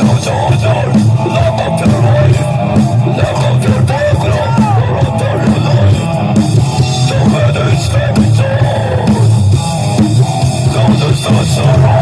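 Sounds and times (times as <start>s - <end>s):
drum kit beat: 0.0s - 12.0s
electric guitar: 0.0s - 12.0s.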